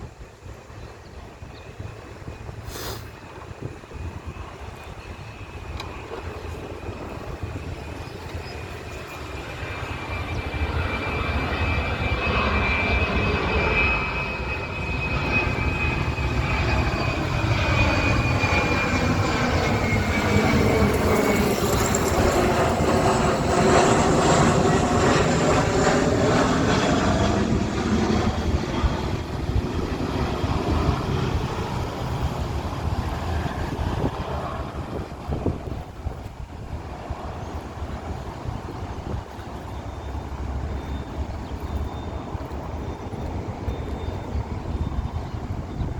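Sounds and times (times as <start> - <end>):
jet engine whine passing by: 0.0 - 45.9.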